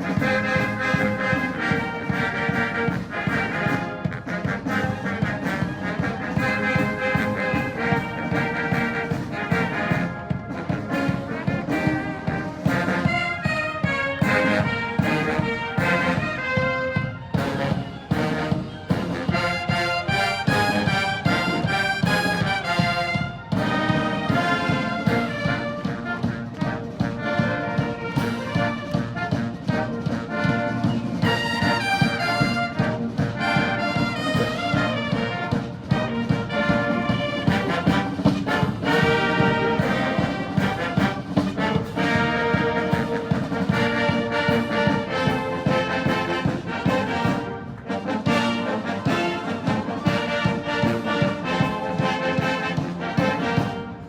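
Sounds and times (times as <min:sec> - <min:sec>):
drum beat: 0:00.0 - 0:54.0
military brass band playing: 0:00.0 - 0:54.0.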